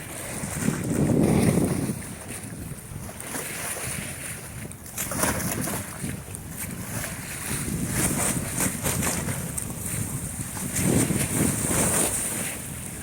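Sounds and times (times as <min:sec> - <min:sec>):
rushing waves: 0:00.0 - 0:13.0
wind buffeting microphone: 0:00.0 - 0:13.0.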